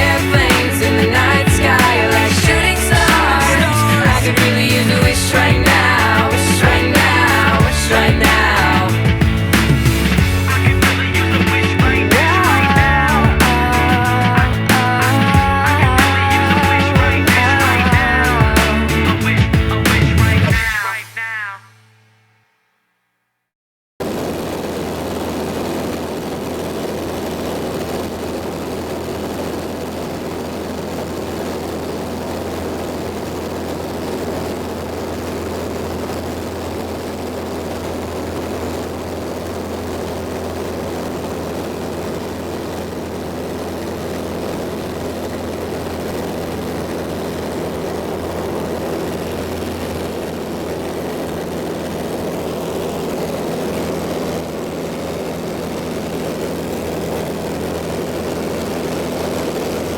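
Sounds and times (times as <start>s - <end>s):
propeller airplane engine droning: 0.0s - 21.6s, 24.0s - 59.9s.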